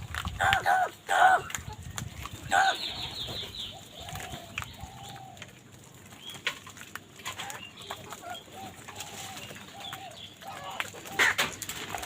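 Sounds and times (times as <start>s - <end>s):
birds calling low notes: 0.0s - 12.0s.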